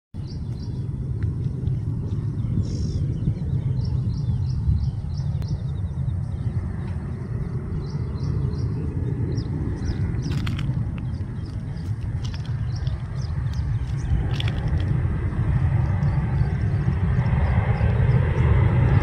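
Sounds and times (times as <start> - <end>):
small birds chirping: 0.2 - 19.0
steady low rumble: 0.2 - 19.0.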